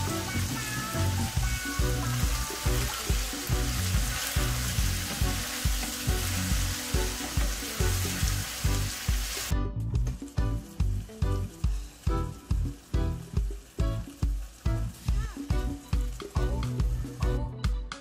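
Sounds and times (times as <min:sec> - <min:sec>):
food sizzling in a pan: 0:00.0 - 0:17.5
background music with steady beat: 0:00.0 - 0:18.0.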